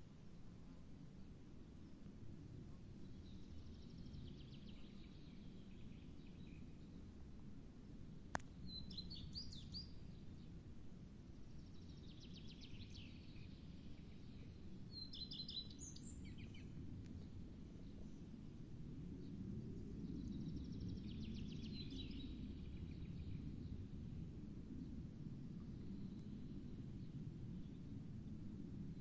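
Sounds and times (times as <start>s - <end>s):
low background rumble: 0.0s - 29.0s
songbirds singing: 1.1s - 7.2s, 8.3s - 29.0s.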